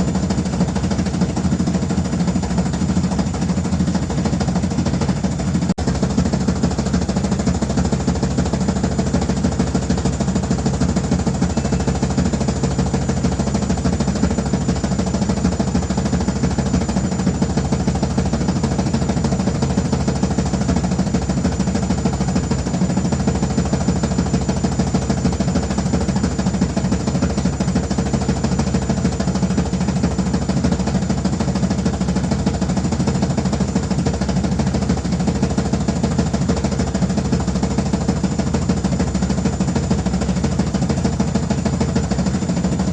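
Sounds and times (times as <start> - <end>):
washing machine running loudly: 0.0 - 42.9.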